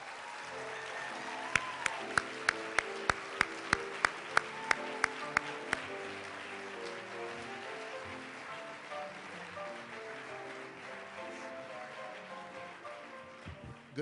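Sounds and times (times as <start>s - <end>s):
music: 0.0s - 14.0s
person clapping: 1.5s - 14.0s.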